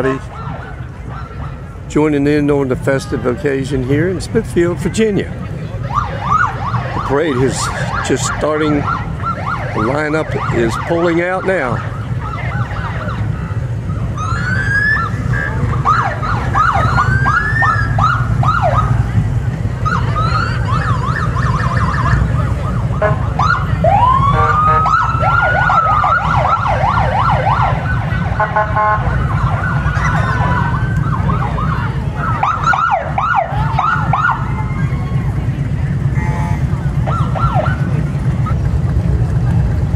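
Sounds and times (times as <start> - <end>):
siren rising wail: 0.0 - 1.9, 5.7 - 39.4
police sirens yelping: 0.0 - 39.9.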